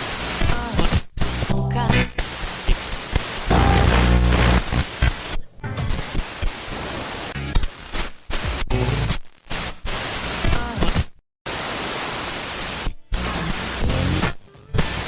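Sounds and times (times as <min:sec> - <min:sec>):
static hiss: 0:00.0 - 0:15.0.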